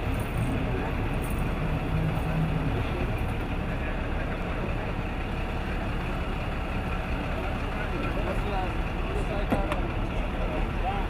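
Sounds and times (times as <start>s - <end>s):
tanker truck engine rumbling: 0.0s - 11.0s.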